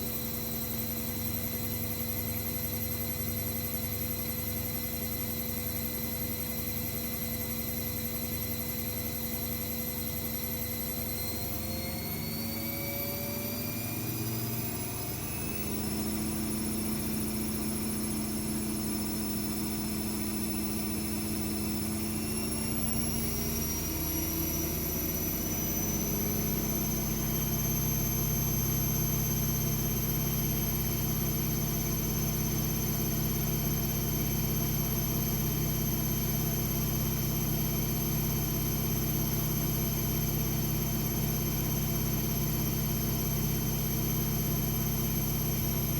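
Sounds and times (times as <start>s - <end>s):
washing machine motor whine: 0.0s - 45.9s.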